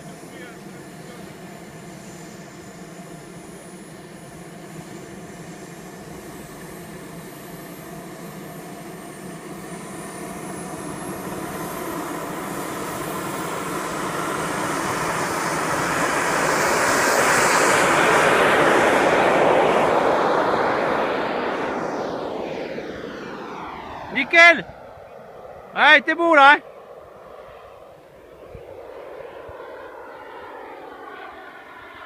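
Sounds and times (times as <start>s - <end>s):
model jet turbine whining: 0.0s - 32.0s.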